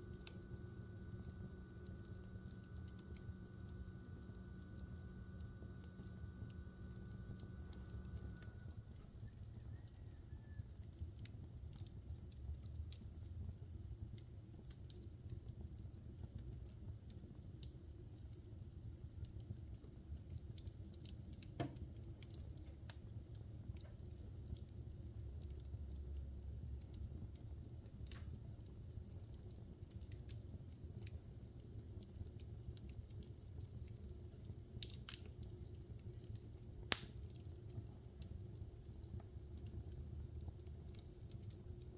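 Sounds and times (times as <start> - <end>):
fireplace logs crackling and popping: 0.0 - 41.9
low rumble of flames: 0.0 - 41.9.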